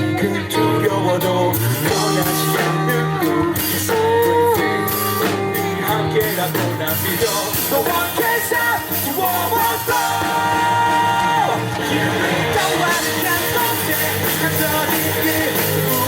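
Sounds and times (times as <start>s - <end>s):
held bending melody notes: 0.0s - 16.0s
live rock band playing: 0.0s - 16.0s.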